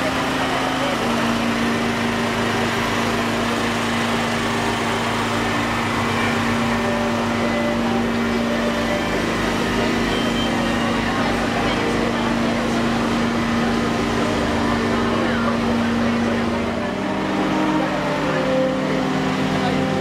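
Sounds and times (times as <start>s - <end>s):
engine humming: 0.0s - 20.0s
murmur of street crowd: 0.0s - 20.0s.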